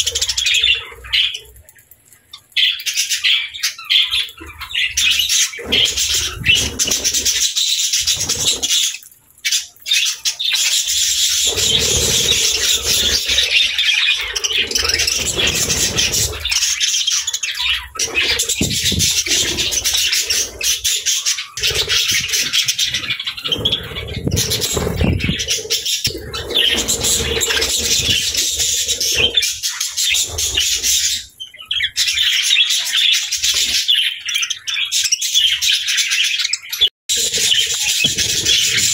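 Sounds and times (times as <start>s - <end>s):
birds chirping and squawking: 0.0s - 38.9s.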